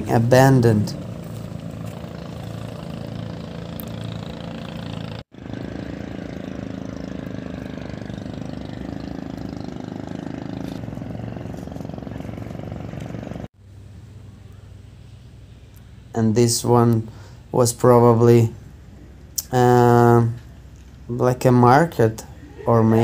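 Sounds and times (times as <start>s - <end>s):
engine hum: 0.0s - 23.0s.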